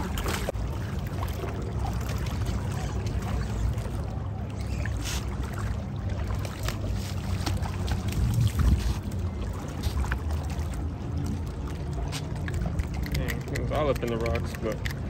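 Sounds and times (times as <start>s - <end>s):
steady low rumble: 0.0s - 15.0s
water splashing along shore: 0.0s - 15.0s.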